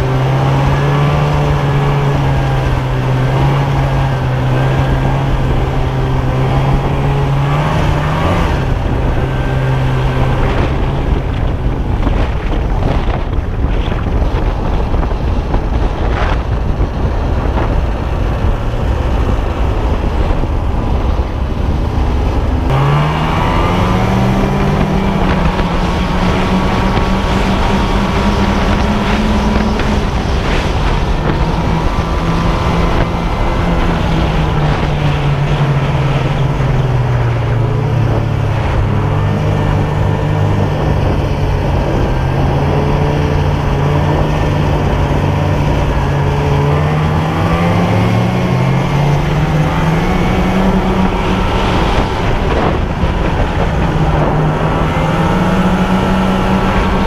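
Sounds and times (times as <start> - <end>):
rough rushing noise: 0.0 - 57.0
snowmobile engine revving: 0.0 - 57.0
wind noise on microphone: 0.0 - 57.0.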